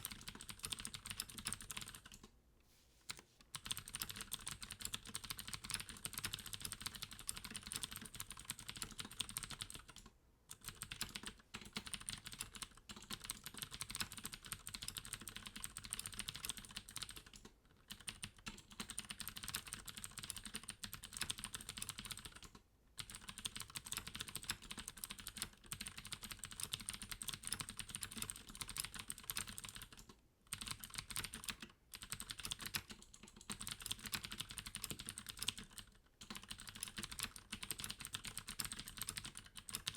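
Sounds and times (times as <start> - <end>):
fast typing on clicky keyboard: 0.0 - 2.3, 3.1 - 39.9.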